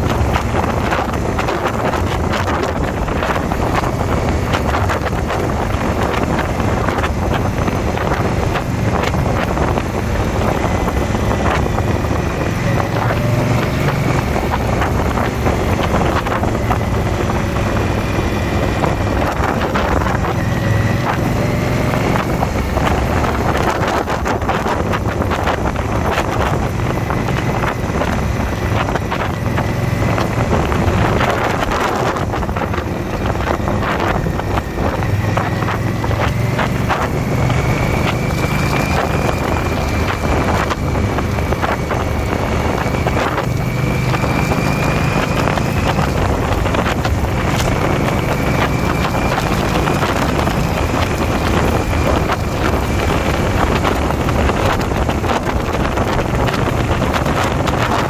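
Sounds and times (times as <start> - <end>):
motorcycle engine running: 0.0 - 58.0
wind buffeting the microphone: 0.0 - 58.0.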